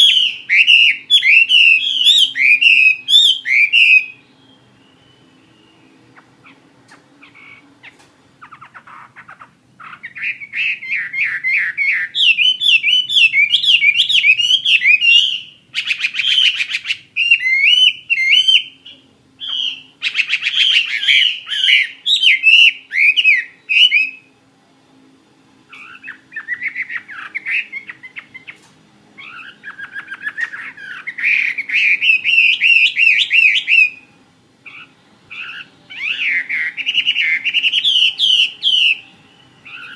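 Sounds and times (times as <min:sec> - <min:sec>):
bird singing whistled notes: 0:00.0 - 0:06.6, 0:08.5 - 0:24.4, 0:25.7 - 0:28.6, 0:29.2 - 0:39.9.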